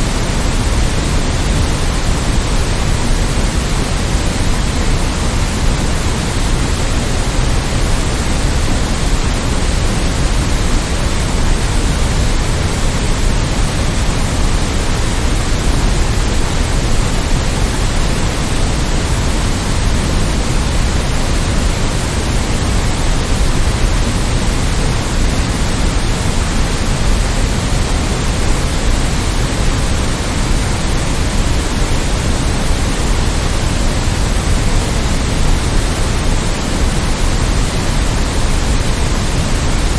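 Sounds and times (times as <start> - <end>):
electronic white noise: 0.0 - 39.9.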